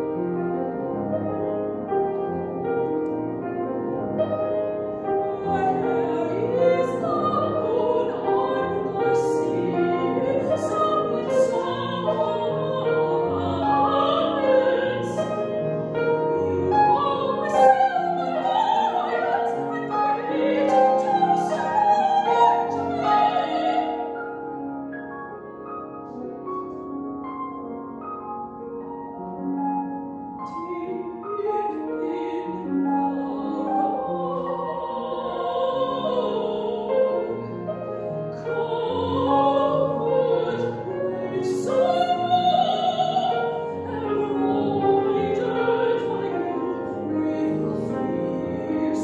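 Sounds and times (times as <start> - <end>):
grand piano accompaniment: 0.0 - 49.0
soprano singing: 0.0 - 49.0.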